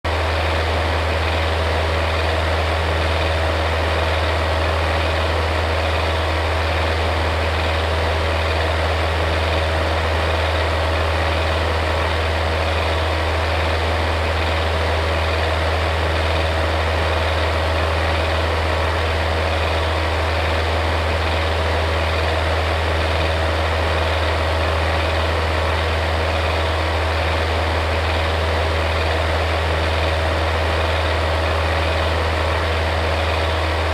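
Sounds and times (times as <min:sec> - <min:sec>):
electric fan whirring: 0:00.1 - 0:33.9.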